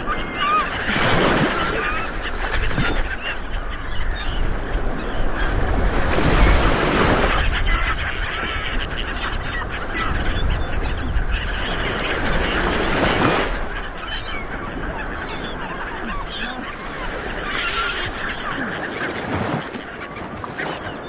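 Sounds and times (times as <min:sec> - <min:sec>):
ocean waves on shore: 0:00.0 - 0:21.0.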